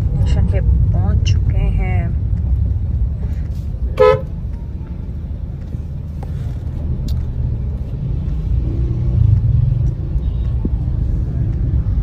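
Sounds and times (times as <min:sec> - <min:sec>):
car engine rumble inside cabin: 0:00.0 - 0:12.0
road noise: 0:00.0 - 0:12.0.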